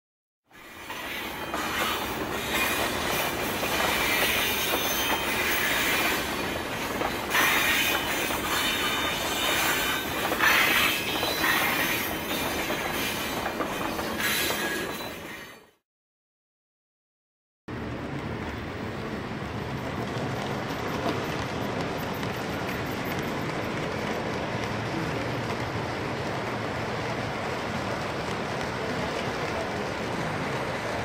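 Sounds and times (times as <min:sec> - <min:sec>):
freight train rattling and rumbling: 0:00.6 - 0:15.6, 0:17.7 - 0:31.0.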